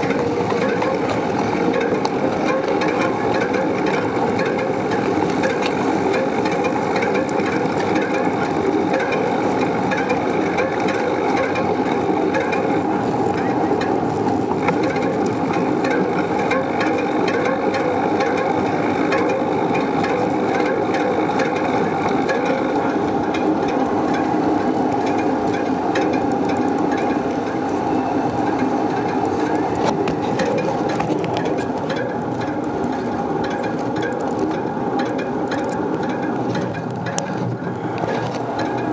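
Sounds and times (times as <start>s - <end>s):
bicycle rattling and road rumble: 0.0s - 38.9s.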